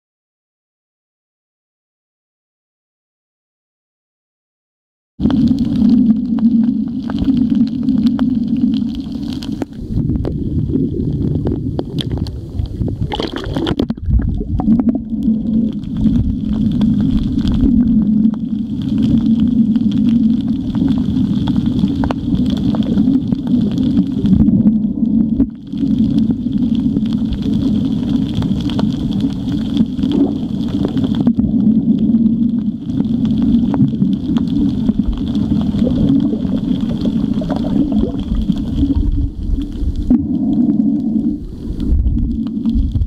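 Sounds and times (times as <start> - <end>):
low underwater drone: 5.2 - 43.0.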